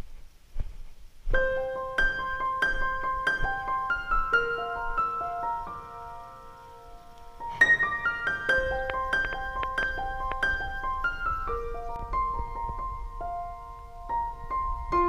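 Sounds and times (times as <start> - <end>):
slow piano melody: 1.3 - 15.0.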